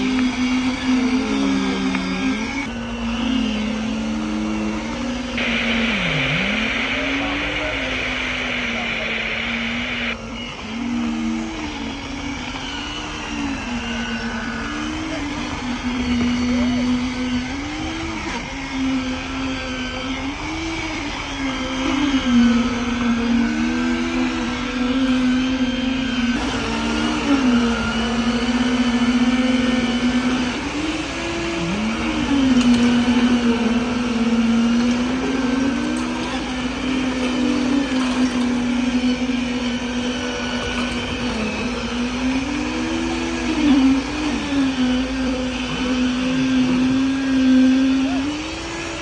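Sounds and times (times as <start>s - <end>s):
motor running at high pitch: 0.0s - 49.0s.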